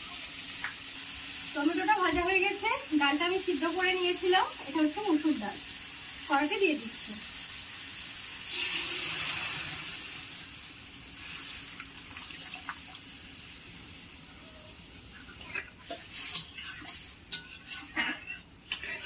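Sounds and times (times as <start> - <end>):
loud hissing sizzle: 0.0 - 18.0.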